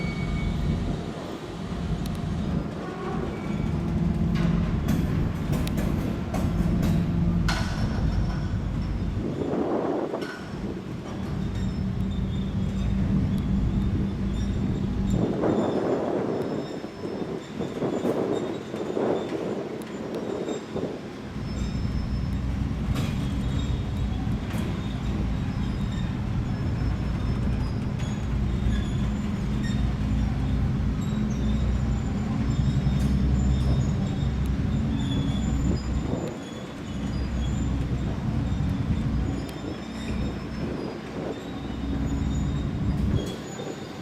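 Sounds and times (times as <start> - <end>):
faint wheel squeal: 0.0 - 1.1, 2.3 - 4.0, 7.9 - 44.0
locomotive rumble: 0.0 - 44.0
railway carriages rolling: 0.0 - 44.0.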